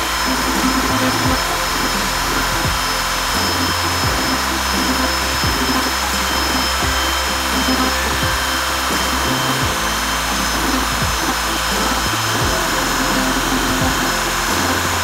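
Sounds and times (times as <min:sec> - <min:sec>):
background music with bass notes: 0:00.0 - 0:15.0
router spindle cutting wood: 0:00.0 - 0:15.0.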